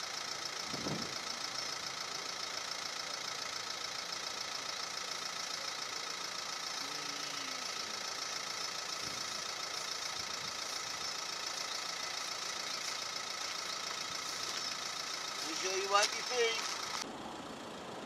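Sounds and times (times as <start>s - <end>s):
jet engine idling whine: 0.0s - 18.0s.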